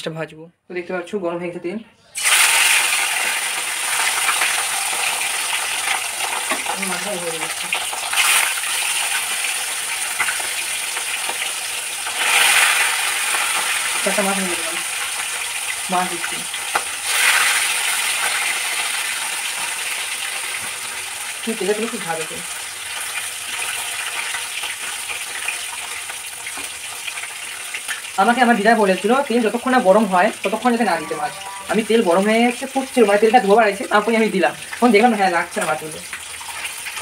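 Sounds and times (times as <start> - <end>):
fish sizzling in hot oil: 2.2 - 37.0.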